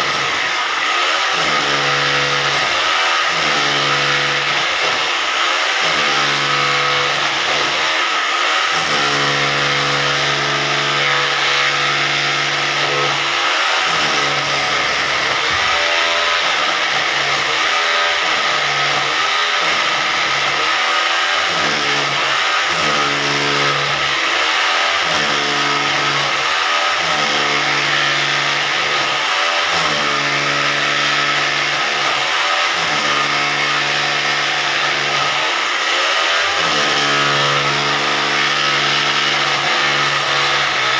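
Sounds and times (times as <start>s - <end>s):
hammer drill hammering: 0.0s - 40.9s.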